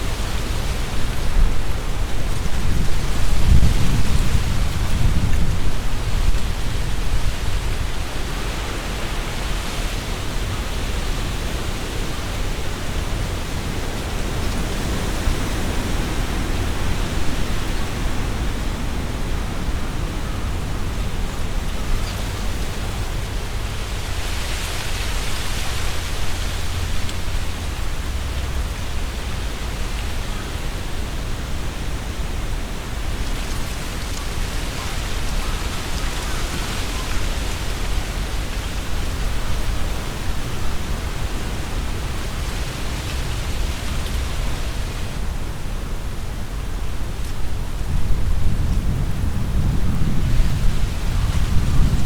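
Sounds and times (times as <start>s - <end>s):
leaves rustling: 0.0s - 52.0s
wind gusting through trees: 0.0s - 52.0s.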